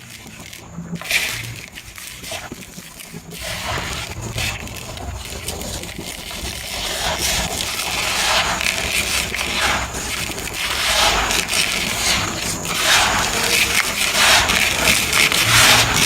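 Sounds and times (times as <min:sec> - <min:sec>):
sand-cement crumbling and crunching: 0:00.0 - 0:16.0.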